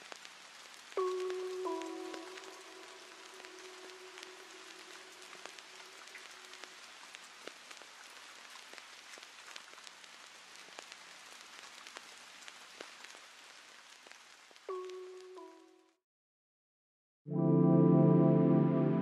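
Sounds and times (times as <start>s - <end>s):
crackles and clicks: 0.0s - 16.0s
faint steady hiss: 0.0s - 16.0s.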